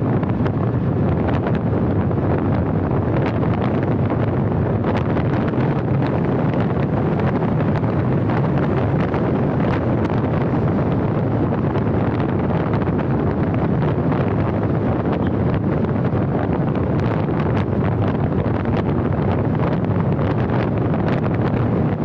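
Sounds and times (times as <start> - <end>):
road and tyre noise: 0.0 - 22.0
wind rumble on microphone: 0.0 - 22.0.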